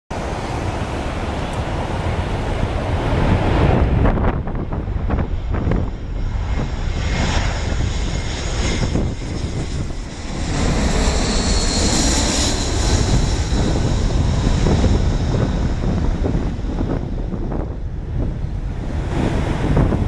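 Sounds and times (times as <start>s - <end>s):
jet engine roar with whine: 0.1s - 20.0s.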